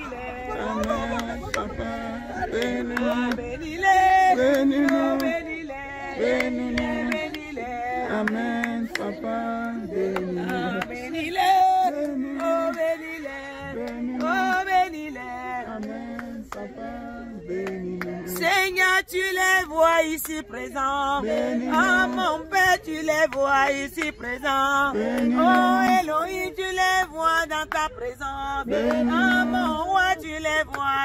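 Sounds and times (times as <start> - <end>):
voices singing worship chant: 0.0 - 31.0.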